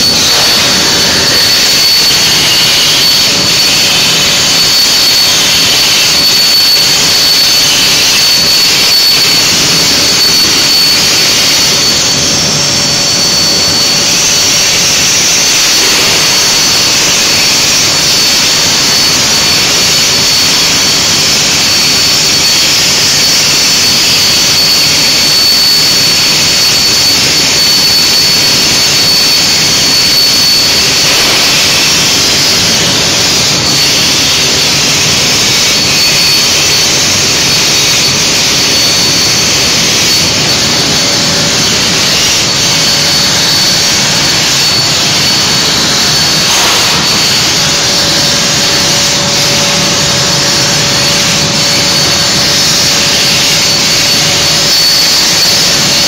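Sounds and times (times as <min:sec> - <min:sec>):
plasma torch hissing: 0:00.0 - 0:56.0
thin high whine: 0:00.0 - 0:56.0.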